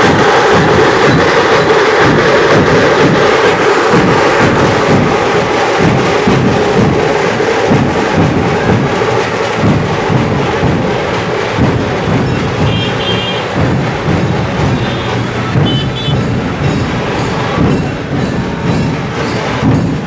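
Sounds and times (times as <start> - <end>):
loud music with heavy drum beat: 0.0 - 20.0.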